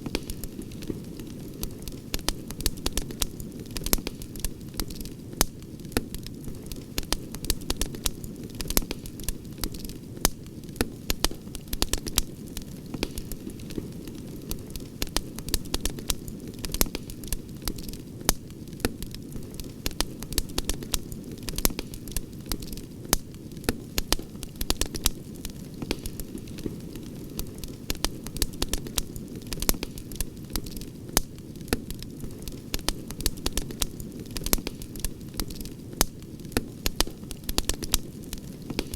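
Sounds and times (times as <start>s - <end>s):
campfire pops and snaps: 0.0s - 38.9s
low rumble of flames: 0.0s - 38.9s.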